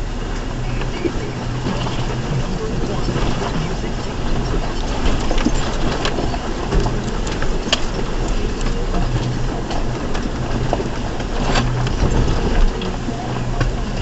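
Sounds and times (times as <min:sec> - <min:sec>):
knocks and rattles: 0:00.0 - 0:14.0
truck engine running low speed: 0:00.0 - 0:14.0
tyre and body noise: 0:00.0 - 0:14.0.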